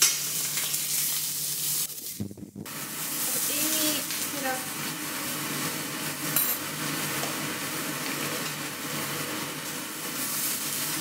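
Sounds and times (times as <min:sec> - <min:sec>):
meat sizzling in frying pan: 0:00.0 - 0:11.0.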